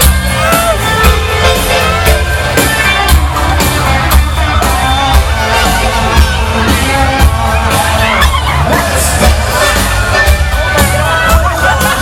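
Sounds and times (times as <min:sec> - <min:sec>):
loud live band music: 0:00.0 - 0:12.0
steady bass beat: 0:00.0 - 0:12.0.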